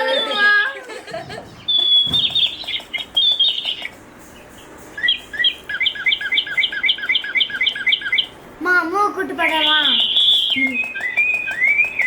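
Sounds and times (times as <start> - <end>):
electronic toy bird chirping: 0.0 - 0.6, 1.5 - 8.4, 9.2 - 12.0.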